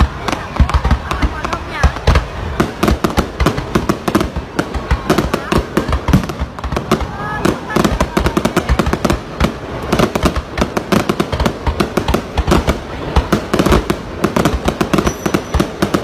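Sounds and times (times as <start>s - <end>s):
fireworks banging and crackling: 0.0s - 16.0s.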